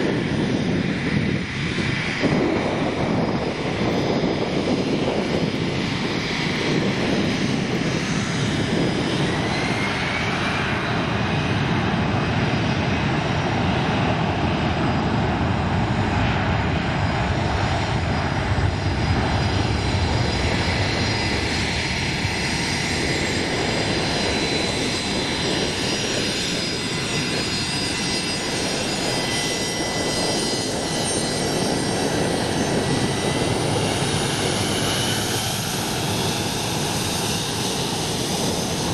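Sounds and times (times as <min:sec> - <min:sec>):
high turbine whine: 0:00.0 - 0:38.9
jet engines rushing: 0:00.0 - 0:38.9.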